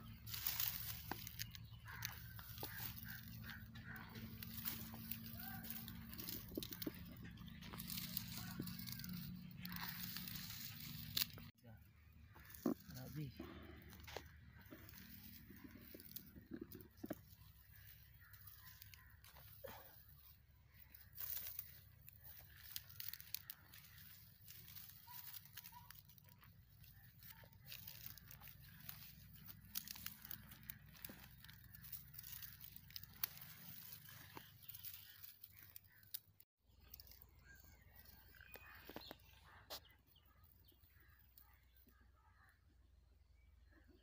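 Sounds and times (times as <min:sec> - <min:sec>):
dry stalks and roots snapping: 0:00.0 - 0:42.5.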